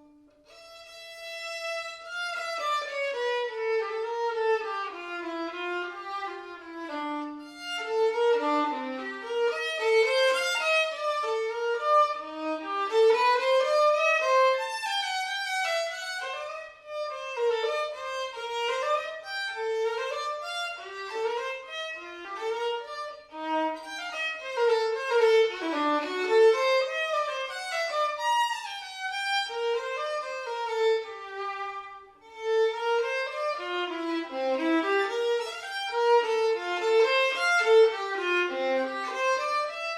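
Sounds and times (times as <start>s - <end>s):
solo violin melody: 0.0s - 39.9s.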